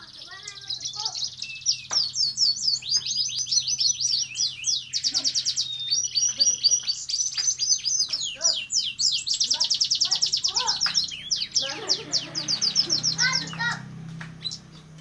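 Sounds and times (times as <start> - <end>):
bird singing chirps and trills: 0.0 - 15.0.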